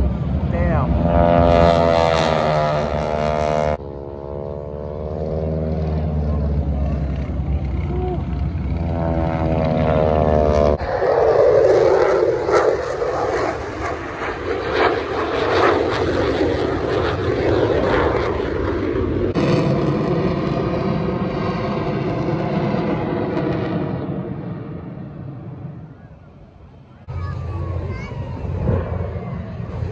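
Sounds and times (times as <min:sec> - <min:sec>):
jet engine roar: 0:00.0 - 0:29.9
propeller planes passing: 0:00.0 - 0:29.9.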